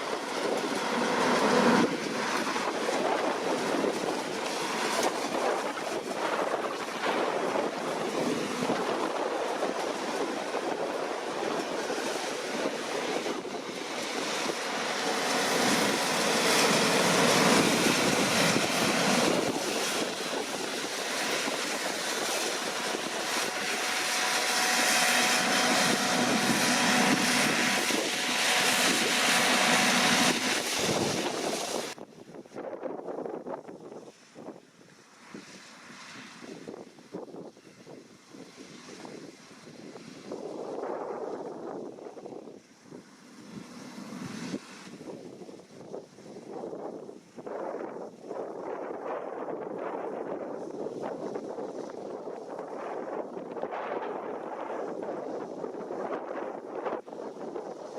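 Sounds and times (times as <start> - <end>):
combine harvester running: 0.0 - 57.9.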